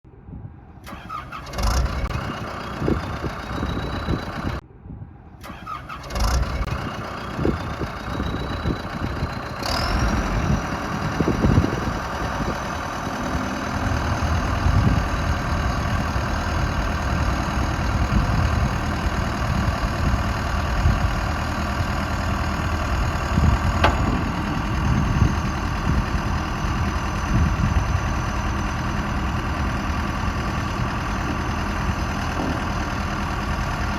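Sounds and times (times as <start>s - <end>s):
diesel engine starting and idling: 0.8s - 4.6s, 5.4s - 33.9s.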